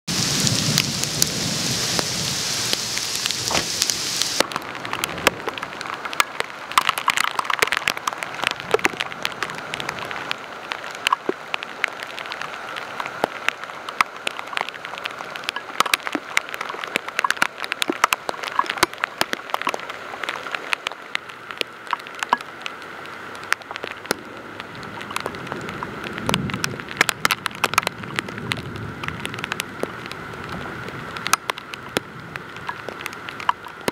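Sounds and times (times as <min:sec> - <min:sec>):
heavy rain pouring: 0:00.1 - 0:33.9
sharp close raindrop hits: 0:00.1 - 0:33.9.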